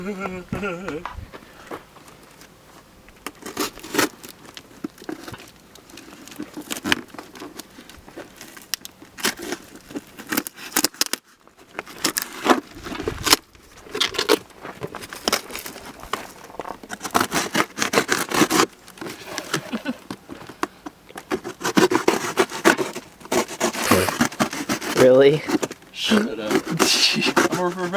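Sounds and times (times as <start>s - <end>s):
cardboard tearing and scraping: 3.2s - 20.2s, 21.2s - 27.9s.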